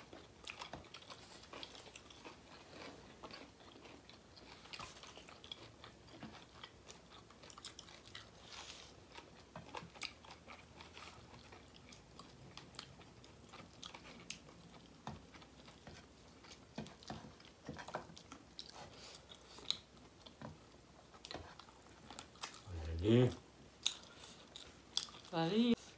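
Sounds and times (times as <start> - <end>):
people chewing food: 0.0 - 25.9.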